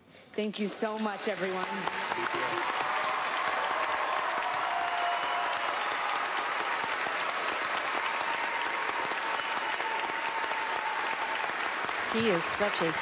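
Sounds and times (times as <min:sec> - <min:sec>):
large audience applauding: 0:00.8 - 0:13.0.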